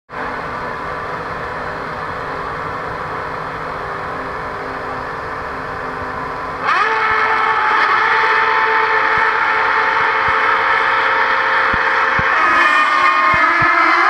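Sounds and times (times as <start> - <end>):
racing car engines running: 0.1 - 14.0.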